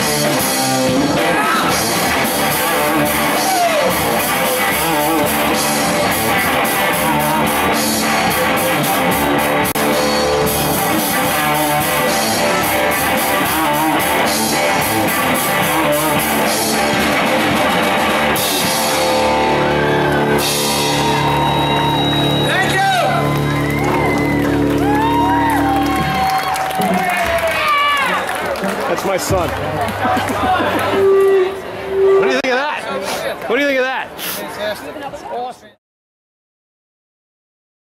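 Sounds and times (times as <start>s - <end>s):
drum kit: 0.0s - 27.7s, 29.2s - 32.4s
electric guitars: 0.0s - 32.3s
bass guitar: 0.0s - 32.6s.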